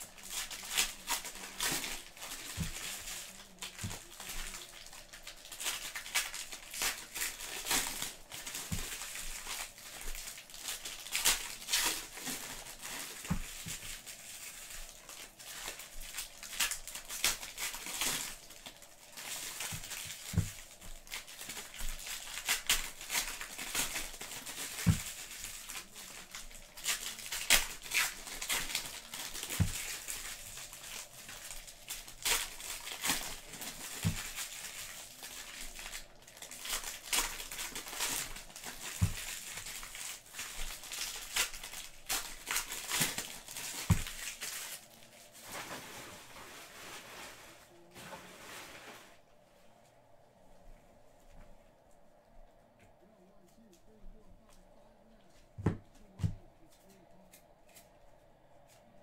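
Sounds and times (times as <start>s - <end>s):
foil wrappers crinkling: 0.0s - 49.2s, 53.1s - 58.0s.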